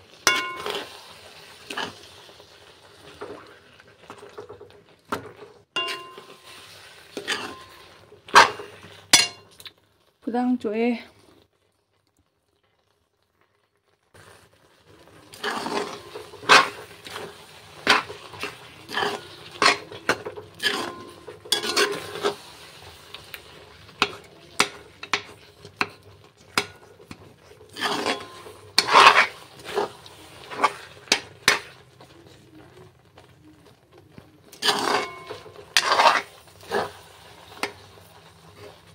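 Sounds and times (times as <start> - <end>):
spoon scraping iron wok: 0.0 - 9.6, 15.2 - 38.9.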